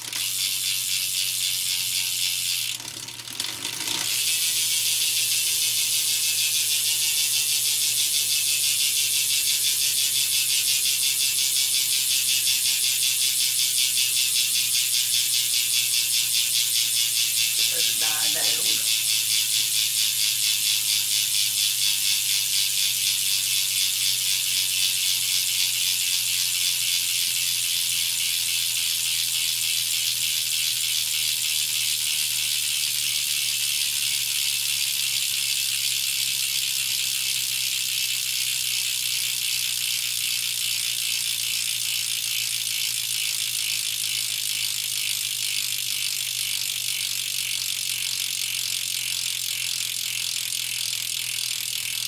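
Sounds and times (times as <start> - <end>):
bicycle hub ratcheting: 0.0 - 52.0.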